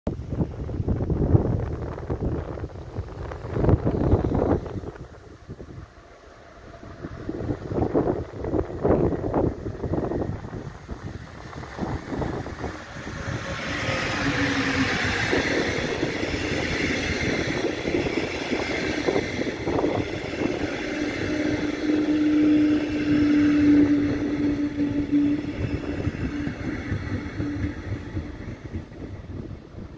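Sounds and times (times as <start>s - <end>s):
train wheels rumbling on rails: 0.2s - 29.9s.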